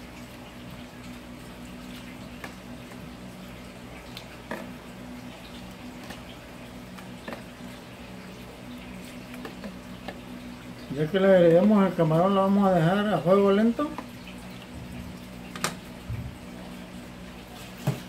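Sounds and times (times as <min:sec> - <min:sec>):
broth boiling and bubbling: 0:00.0 - 0:18.0
steady low hum: 0:00.0 - 0:18.0.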